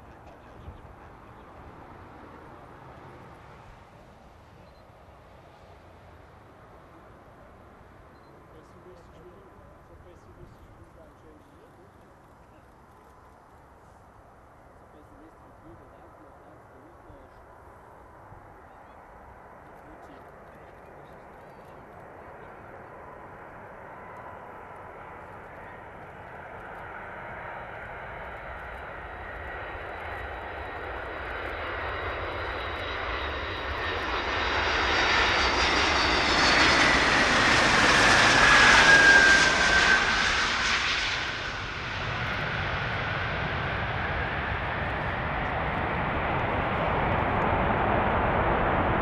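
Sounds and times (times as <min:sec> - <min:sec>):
jet engine whine: 0:00.0 - 0:49.0
jet engines rumbling: 0:00.0 - 0:49.0.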